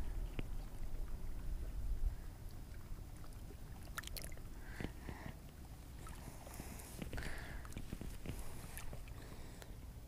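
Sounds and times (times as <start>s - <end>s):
small water splashes: 0.0s - 9.7s
water sloshing: 0.0s - 9.7s.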